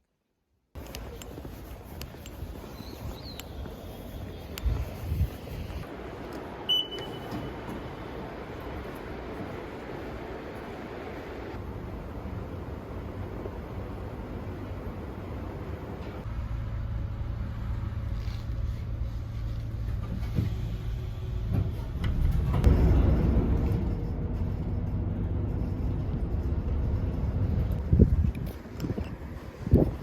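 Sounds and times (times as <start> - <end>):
vehicle engine rumbling: 0.8 - 30.0.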